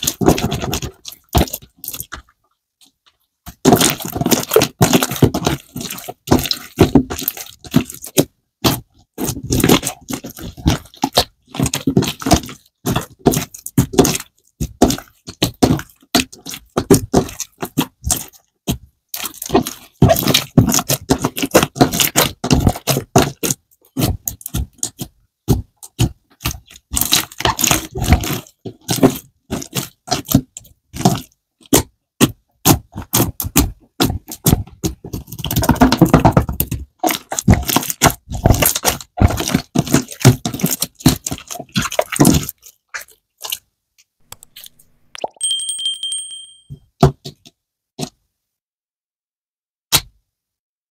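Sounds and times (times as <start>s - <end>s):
slime squished by hand: 0.0s - 2.3s, 3.4s - 43.7s.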